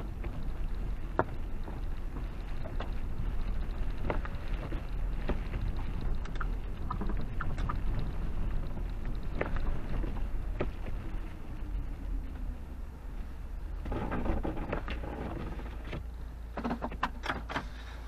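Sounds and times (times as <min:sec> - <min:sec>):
car rumble on snowy road: 0:00.0 - 0:18.0.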